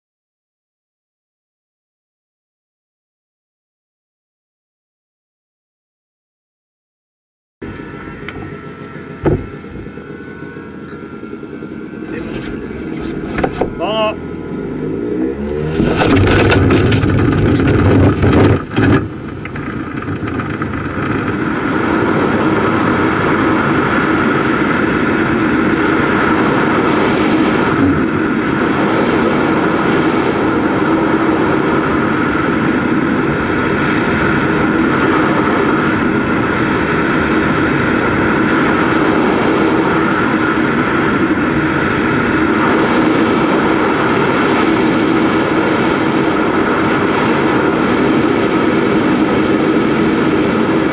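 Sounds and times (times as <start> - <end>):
model plane engine running: 7.6 - 50.9
rumble of wheels on grass: 7.6 - 50.9.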